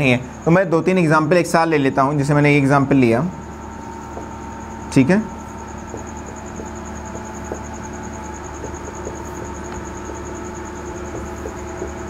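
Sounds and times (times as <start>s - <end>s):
steady hum and hiss: 0.0s - 12.0s.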